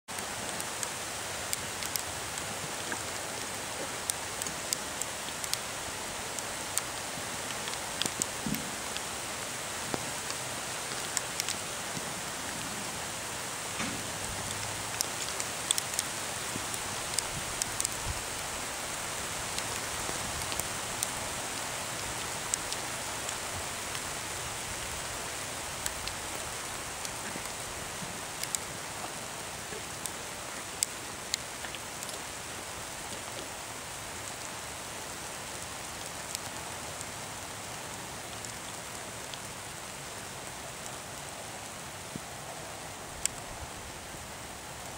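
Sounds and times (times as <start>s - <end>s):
sharp rain ticks: 0.1s - 44.9s
steady rain hiss: 0.1s - 44.9s.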